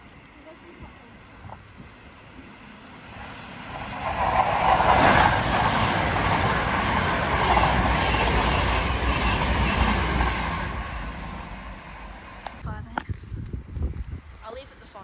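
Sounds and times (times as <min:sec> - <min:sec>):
diesel trains passing at speed: 0:00.0 - 0:12.6.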